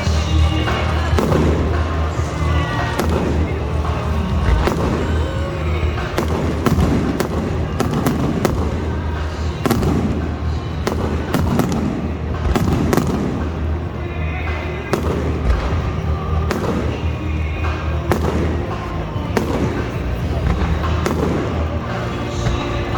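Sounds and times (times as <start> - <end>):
fireworks bangs and cracks: 0.0 - 22.9
music: 0.0 - 22.9
steady low rumble: 0.0 - 22.9.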